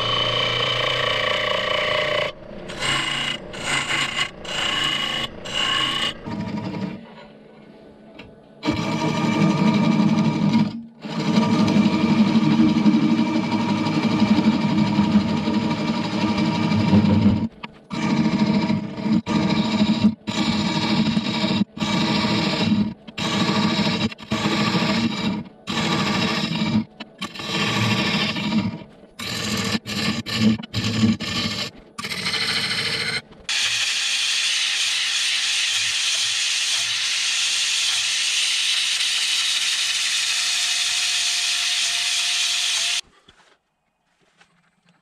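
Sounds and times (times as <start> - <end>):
scraper cutting spinning wooden bowl: 2.7 - 7.0, 8.6 - 43.0.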